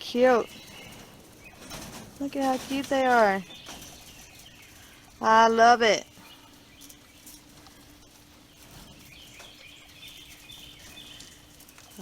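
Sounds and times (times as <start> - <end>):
light ticks and rustles: 0.0 - 12.0
low steady hum: 0.0 - 12.0.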